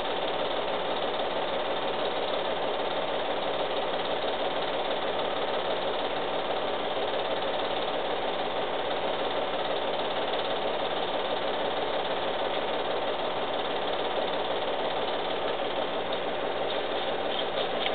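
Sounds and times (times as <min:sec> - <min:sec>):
film projector whirring and clattering: 0:00.0 - 0:17.9.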